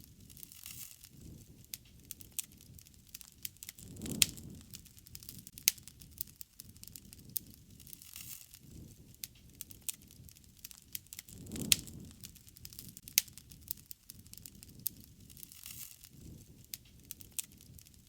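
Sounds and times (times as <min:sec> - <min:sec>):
campfire crackling: 0:00.0 - 0:18.0
low rush of burning: 0:00.0 - 0:18.0
sharp pops of fire: 0:00.0 - 0:18.0.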